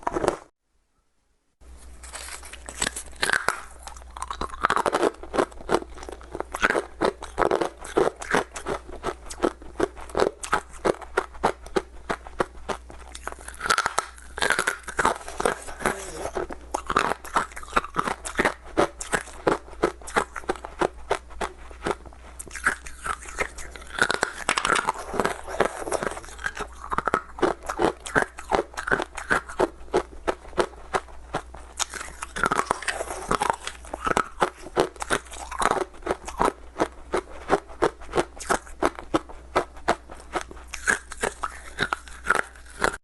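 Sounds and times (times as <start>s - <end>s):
ice cubes crunching when chewed: 2.0s - 43.0s.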